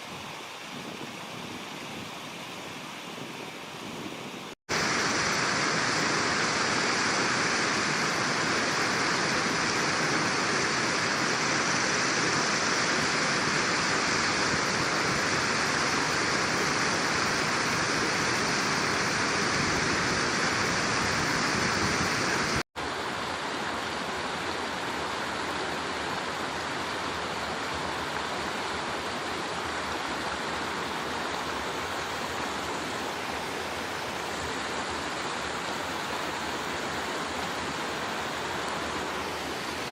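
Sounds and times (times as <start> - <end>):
rushing mountain stream: 0.0 - 39.9.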